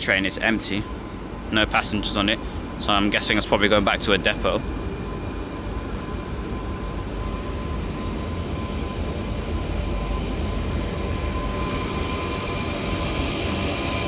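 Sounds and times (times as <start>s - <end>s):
higher whine: 0.0s - 14.0s
thin steady whine: 0.0s - 14.0s
train rumbling past: 0.0s - 14.0s.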